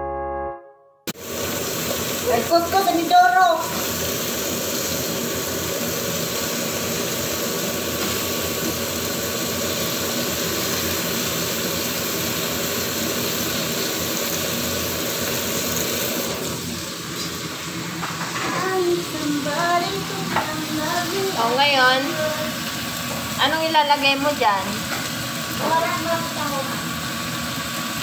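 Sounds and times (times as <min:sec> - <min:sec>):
extractor fan whirring: 0:01.2 - 0:28.0.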